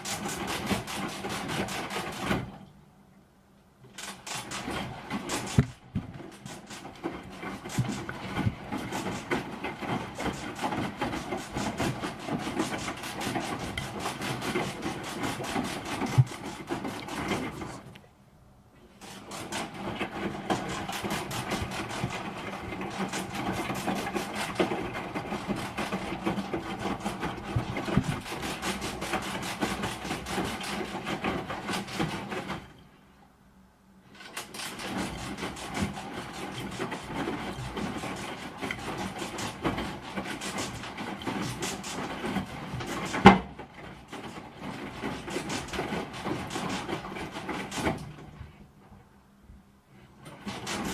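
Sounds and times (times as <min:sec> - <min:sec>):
washing machine rattling: 0:00.0 - 0:02.7, 0:03.9 - 0:18.0, 0:18.9 - 0:33.0, 0:34.0 - 0:48.6, 0:50.1 - 0:50.9.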